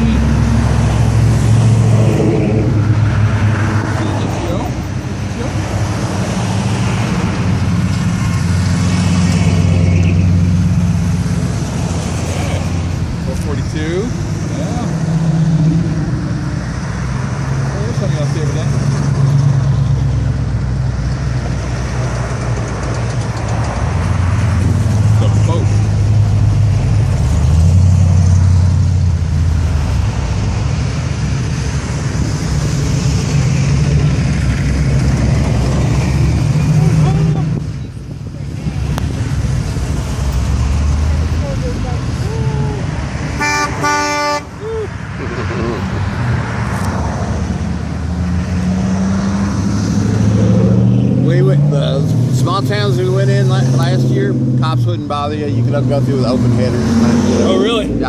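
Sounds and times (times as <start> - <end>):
car engine rumbling: 0.0 - 58.0
passing traffic: 0.0 - 58.0.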